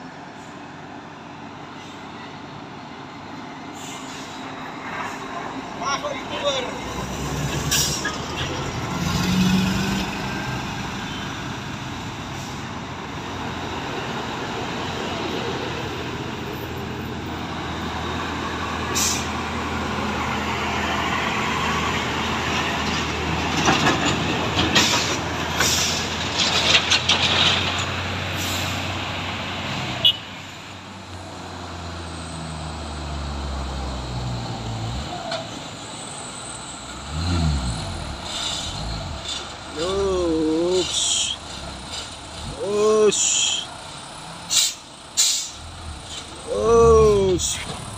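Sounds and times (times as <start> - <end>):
diesel truck engine drone: 0.0 - 47.9.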